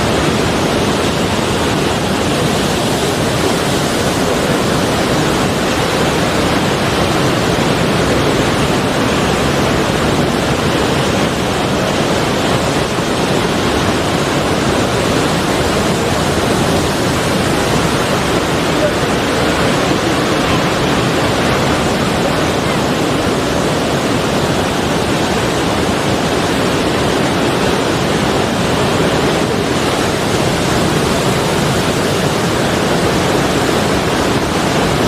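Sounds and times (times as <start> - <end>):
sea waves and surf rushing: 0.0 - 35.0.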